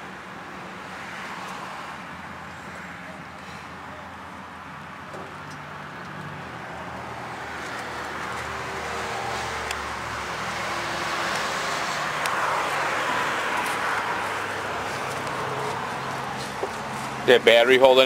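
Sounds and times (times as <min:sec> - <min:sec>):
motor vehicle rumble and hiss: 0:00.0 - 0:18.0.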